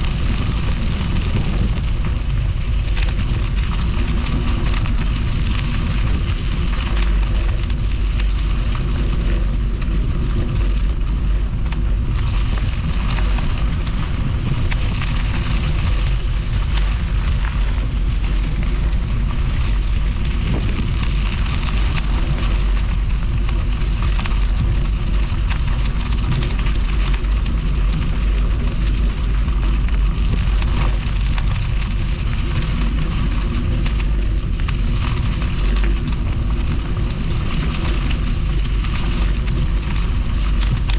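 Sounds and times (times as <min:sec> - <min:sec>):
bike tyres rolling on path: 0:00.0 - 0:40.9
wind buffeting microphone: 0:00.0 - 0:40.9.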